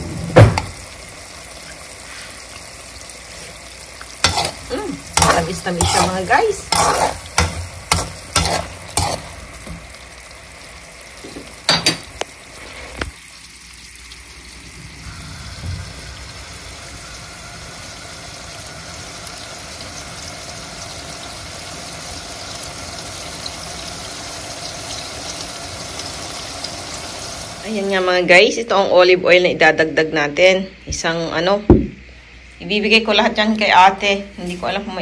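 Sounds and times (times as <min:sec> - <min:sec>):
food sizzling in oil: 0:00.0 - 0:28.6.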